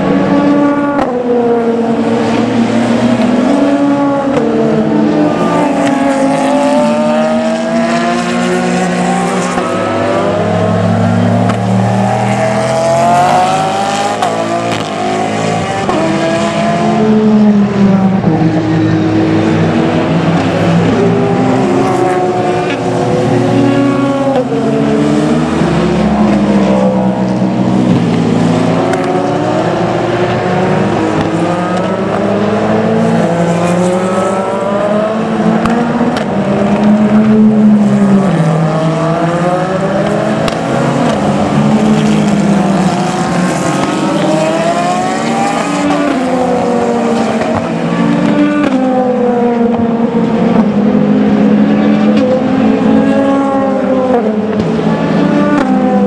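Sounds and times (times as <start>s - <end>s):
race car engines cornering: 0.0s - 56.0s.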